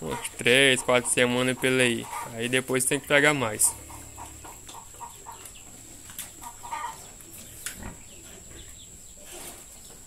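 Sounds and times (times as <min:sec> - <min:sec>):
farm animal calls: 0:00.0 - 0:10.0.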